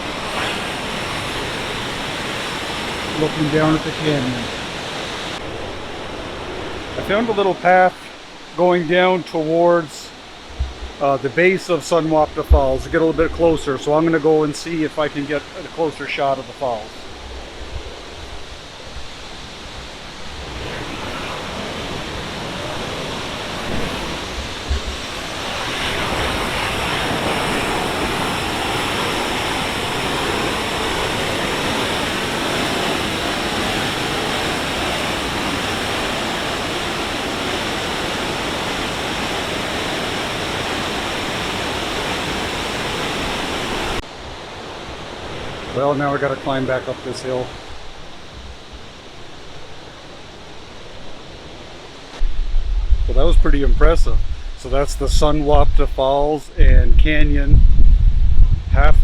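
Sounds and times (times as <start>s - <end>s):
large waterfall roaring: 0.0s - 52.2s.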